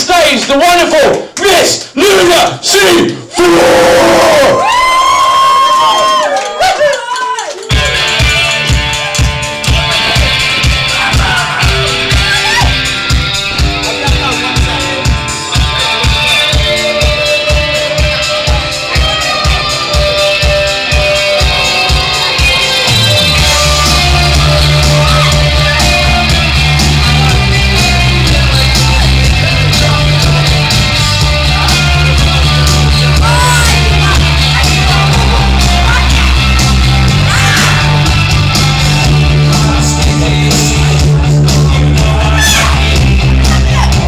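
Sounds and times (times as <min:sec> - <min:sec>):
rock music with singing: 0:07.7 - 0:44.0.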